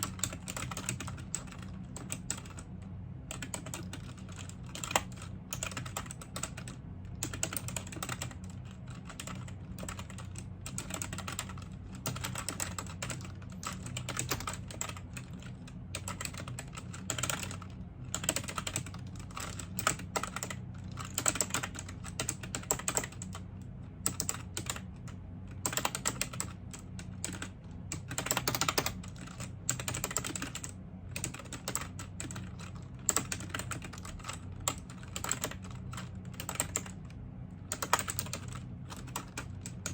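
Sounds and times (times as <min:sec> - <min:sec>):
computer keyboard typing: 0:00.0 - 0:02.7, 0:03.3 - 0:23.4, 0:24.0 - 0:39.9
faint low hum: 0:00.0 - 0:39.9.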